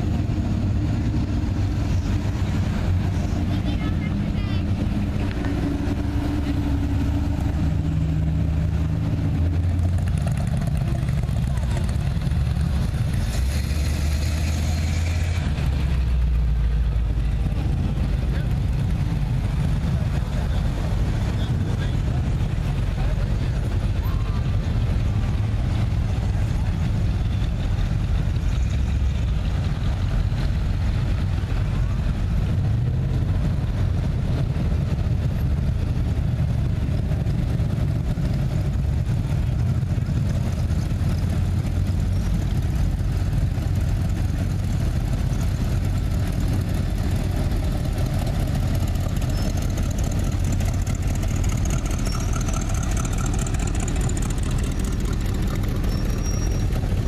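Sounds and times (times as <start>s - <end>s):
car engines passing slowly: 0.0s - 57.0s.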